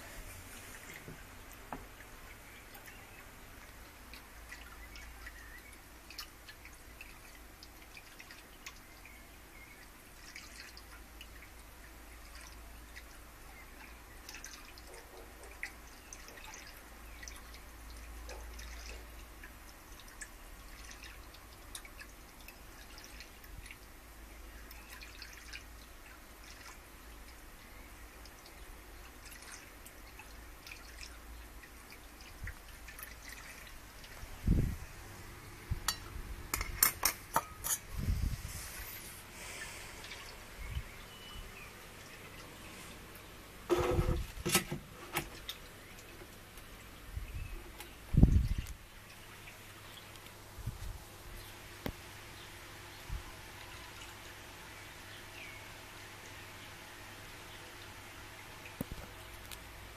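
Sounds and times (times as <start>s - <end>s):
water dripping: 0.5s - 37.8s, 39.6s - 59.9s.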